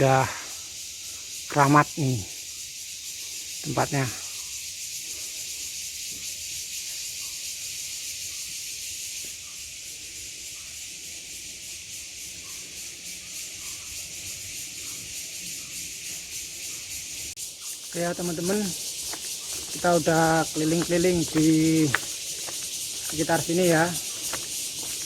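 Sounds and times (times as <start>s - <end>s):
steady high-pitched hiss: 0.0s - 25.0s.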